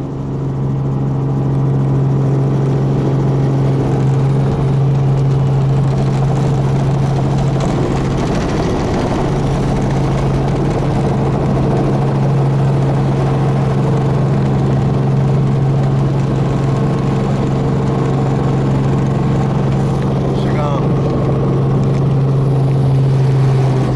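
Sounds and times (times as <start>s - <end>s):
constant low hum: 0.0s - 23.9s
helicopter rotor and engine drone: 0.0s - 23.9s.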